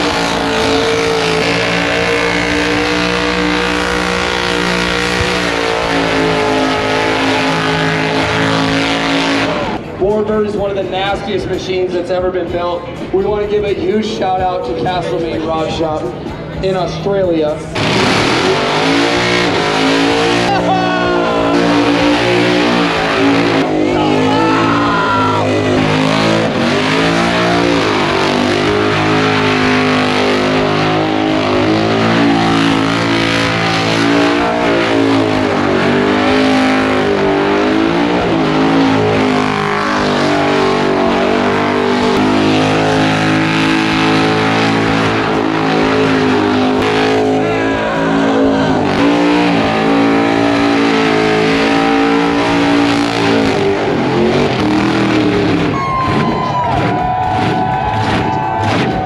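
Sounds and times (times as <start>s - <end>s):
car engine at high revs: 0.0s - 10.0s, 14.7s - 59.0s.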